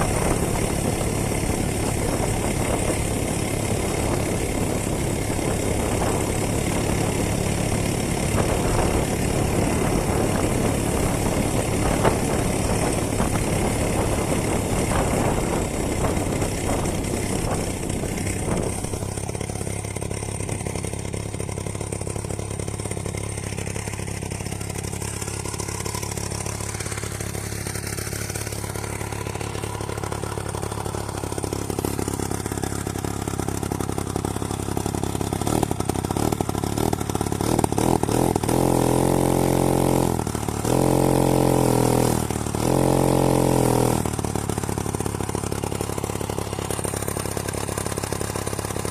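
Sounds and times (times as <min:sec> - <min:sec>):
two-stroke moped engine running: 0:00.0 - 0:48.9.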